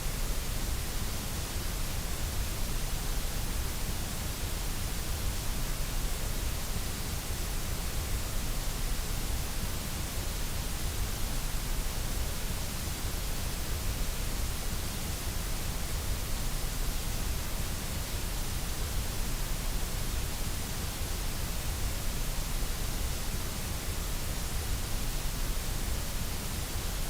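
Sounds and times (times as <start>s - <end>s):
white noise hiss: 0.0s - 27.0s.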